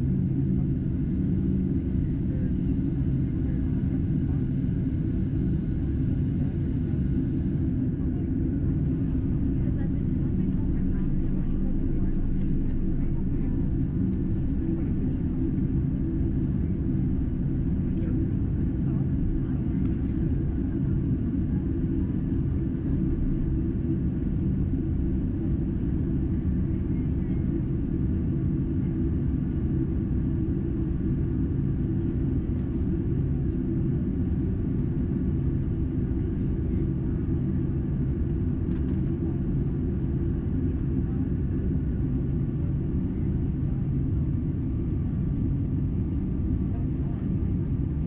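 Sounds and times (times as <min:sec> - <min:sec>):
jet engines idling in cabin: 0:00.0 - 0:48.0.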